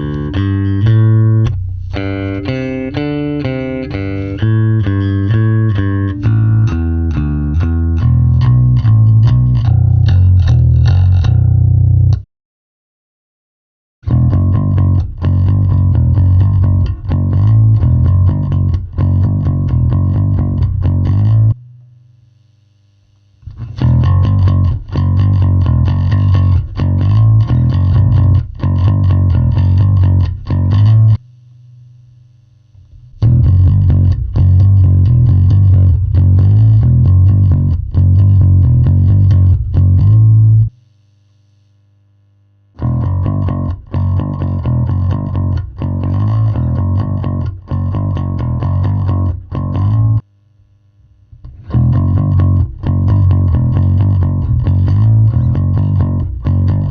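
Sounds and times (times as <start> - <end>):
electric bass guitar riffs: 0.0 - 12.2, 14.0 - 21.9, 23.4 - 31.8, 32.8 - 40.8, 42.8 - 50.2, 51.3 - 56.9.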